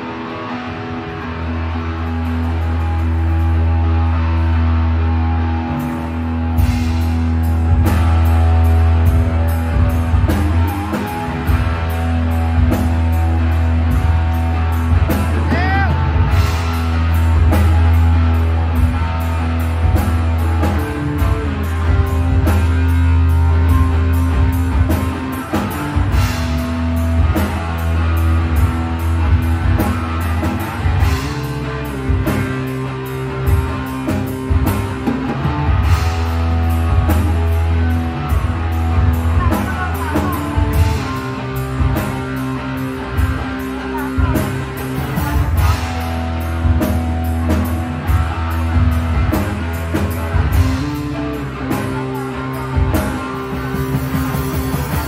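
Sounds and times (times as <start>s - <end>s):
electric guitars: 0.0s - 55.0s
low bass notes: 0.0s - 55.0s
drum-kit beat: 5.2s - 55.0s.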